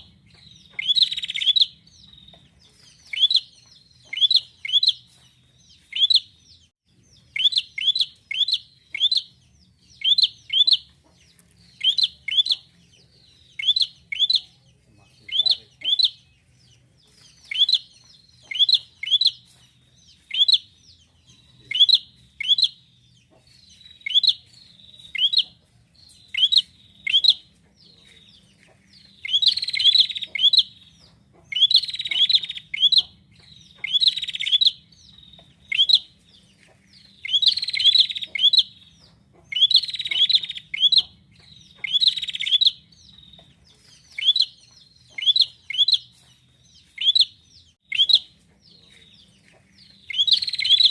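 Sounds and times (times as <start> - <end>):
bird sharp chirps: 0.0 - 50.9.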